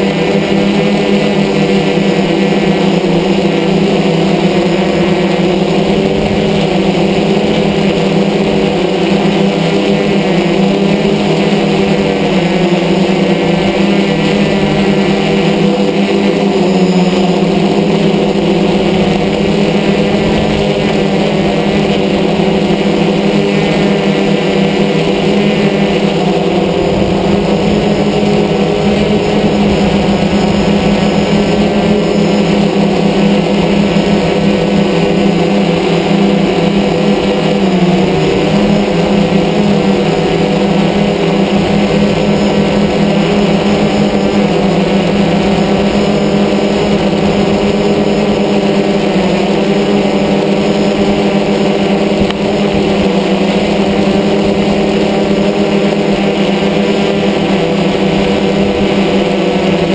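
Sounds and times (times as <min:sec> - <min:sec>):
drone motors and propellers buzzing: 0:00.0 - 0:59.9.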